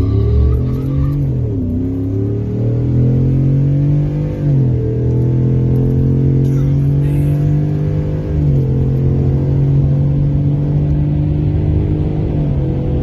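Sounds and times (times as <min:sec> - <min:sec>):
truck engine at full throttle: 0:00.0 - 0:13.0.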